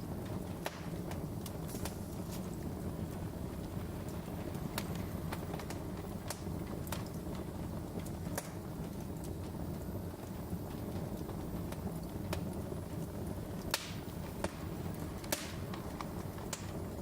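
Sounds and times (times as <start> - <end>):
sharp pops of fire: 0.0 - 17.0
wood fire crackling: 0.0 - 17.0.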